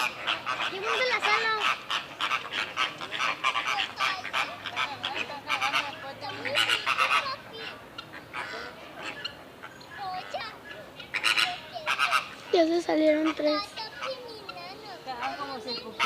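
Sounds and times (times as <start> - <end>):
domestic fowl calling: 0.0 - 16.0.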